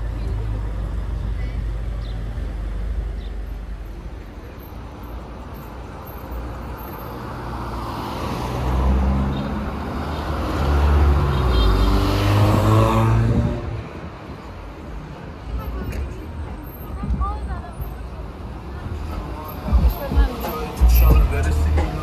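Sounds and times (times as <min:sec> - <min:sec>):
car engines passing: 0:00.0 - 0:22.0
tyres passing: 0:00.0 - 0:22.0.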